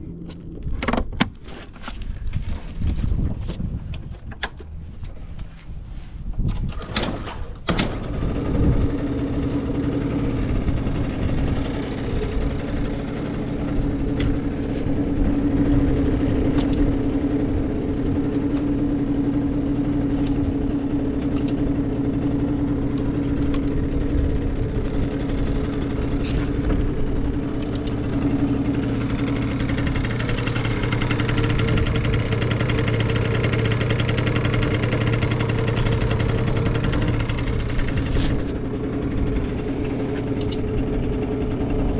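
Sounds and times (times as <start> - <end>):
scooter engine idling: 7.6 - 41.9.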